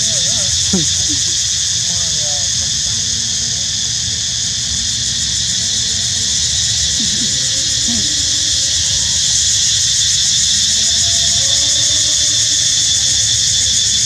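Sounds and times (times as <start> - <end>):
droning insects chorus: 0.0 - 14.0.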